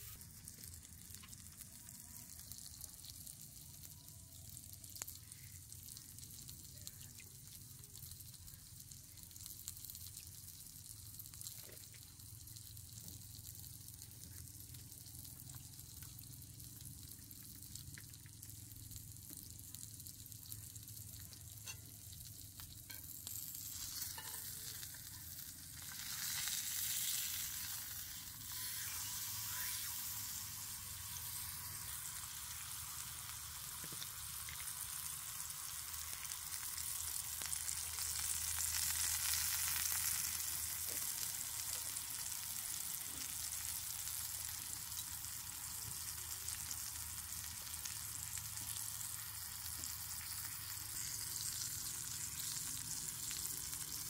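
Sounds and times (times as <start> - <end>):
meat sizzling in a pan: 0.0 - 54.0.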